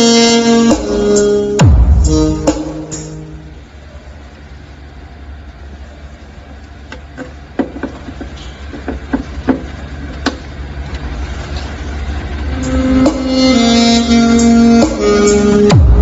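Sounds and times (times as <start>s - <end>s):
low bass rumble from speakers: 0.0s - 7.6s, 9.8s - 16.0s.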